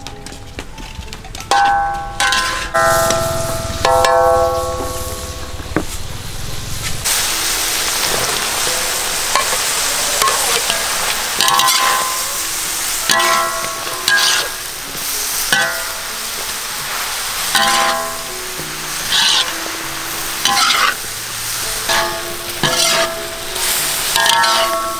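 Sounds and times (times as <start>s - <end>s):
metal spatula scraping a wok: 1.5s - 5.6s, 8.0s - 24.9s
vegetables sizzling in a wok: 2.0s - 24.9s.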